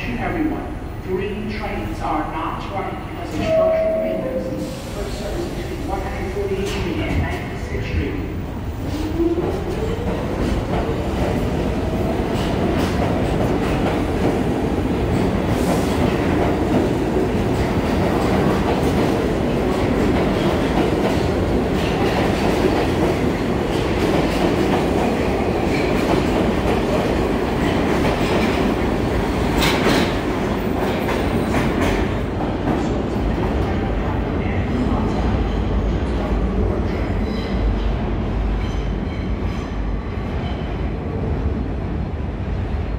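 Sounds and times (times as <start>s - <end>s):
subway train wheels rumbling: 0.0s - 42.9s.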